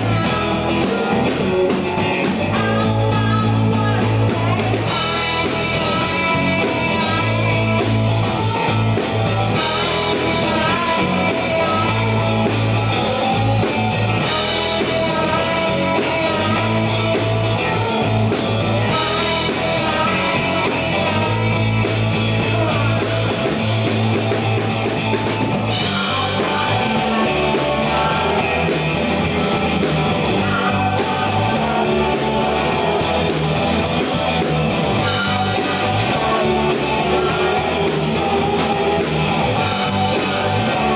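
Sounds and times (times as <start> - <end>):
drum kit: 0.0 - 40.9
electric bass: 0.0 - 40.9
electric guitars: 0.0 - 40.9
male lead singer: 0.0 - 40.9.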